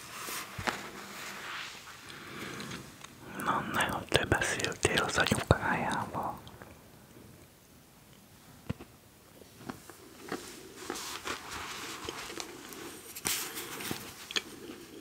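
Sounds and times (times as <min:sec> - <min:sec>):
close crackling and rustling: 0:00.0 - 0:06.4, 0:08.6 - 0:15.0.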